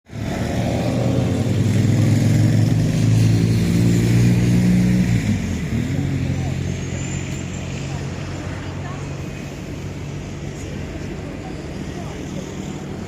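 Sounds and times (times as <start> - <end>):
vehicle engine humming: 0.1 - 13.0.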